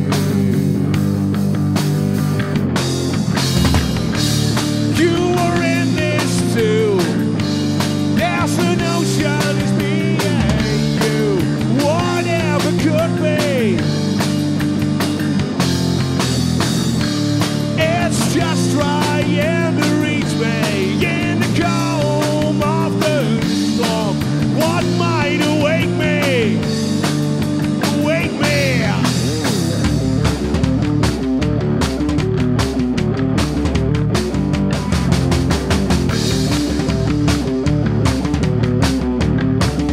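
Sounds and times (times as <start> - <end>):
bending lead guitar melody: 0.0 - 39.9
rock band playing live: 0.0 - 39.9.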